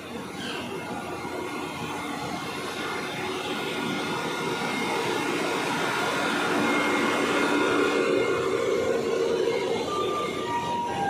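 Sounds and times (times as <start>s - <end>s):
rail grinding machine engine drone: 0.0s - 11.0s.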